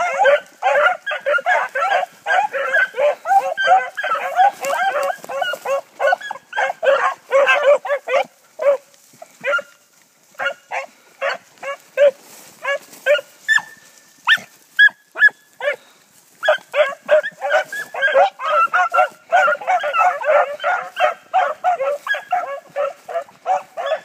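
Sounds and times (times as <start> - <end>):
hounds baying and barking: 0.0 - 24.0.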